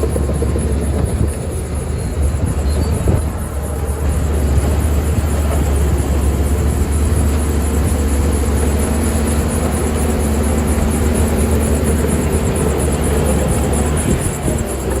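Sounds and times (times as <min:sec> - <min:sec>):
diesel engine low drone: 0:00.0 - 0:15.0.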